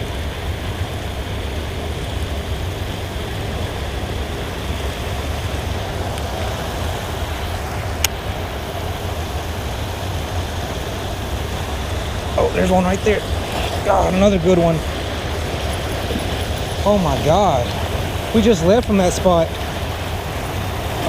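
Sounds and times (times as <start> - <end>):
water pouring over waterfall: 0.0 - 21.0.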